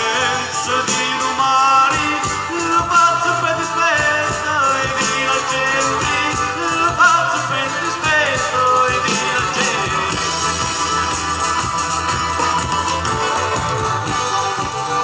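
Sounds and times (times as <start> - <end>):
accordion: 0.0 - 15.0
guitars: 0.0 - 15.0
steady beat: 0.0 - 15.0.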